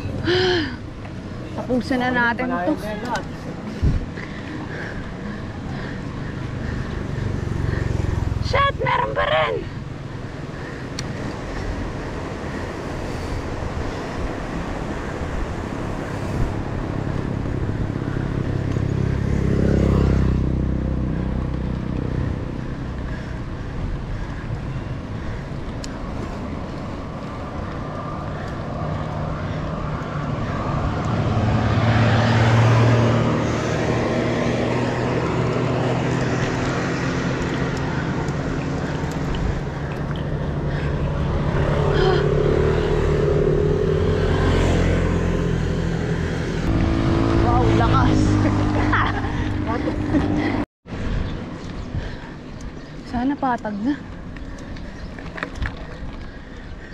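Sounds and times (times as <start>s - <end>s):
road and wind rumble: 0.0s - 56.9s
vehicles passing: 0.0s - 56.9s.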